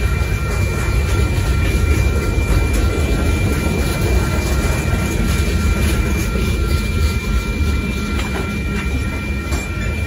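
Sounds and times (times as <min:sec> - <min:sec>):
thin steady high tone: 0:00.0 - 0:10.0
train wheels rumbling on rails: 0:00.0 - 0:10.0.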